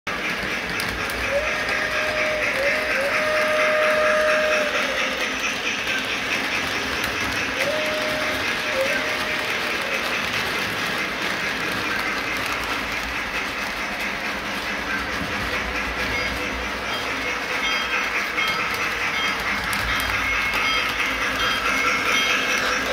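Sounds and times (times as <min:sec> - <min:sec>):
model train wheels whirring: 0:00.1 - 0:22.9.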